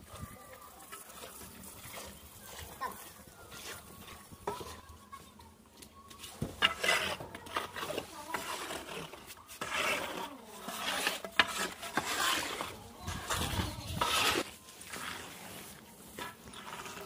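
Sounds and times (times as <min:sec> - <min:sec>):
metal edge scraping wet cement: 0:00.9 - 0:05.2, 0:06.2 - 0:17.0.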